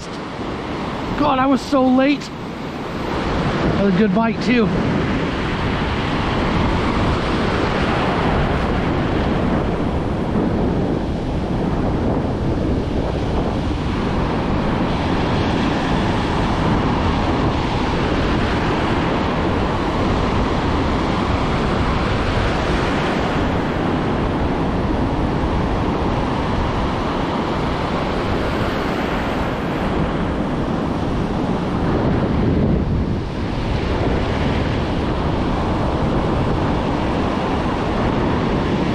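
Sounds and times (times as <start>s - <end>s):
ocean surf breaking on beach: 0.0s - 38.9s
wind buffeting microphone: 0.0s - 38.9s.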